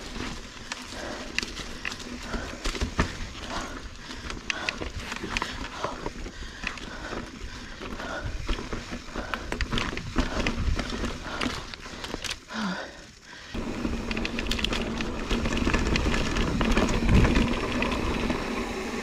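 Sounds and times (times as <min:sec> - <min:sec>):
bike rattling over bumps: 0:00.0 - 0:19.0
bike tyres crunching on dirt: 0:00.0 - 0:19.0.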